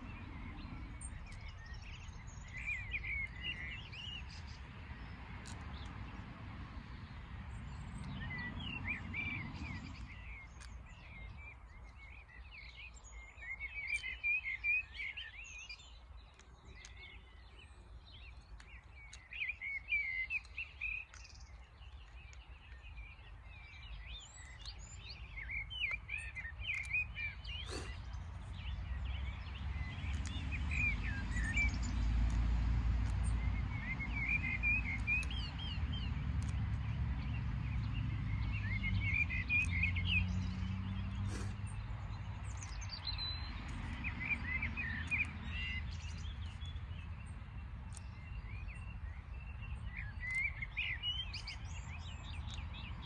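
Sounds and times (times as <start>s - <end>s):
small birds twittering: 0.0s - 53.0s
wind rumble on microphone: 0.0s - 53.0s.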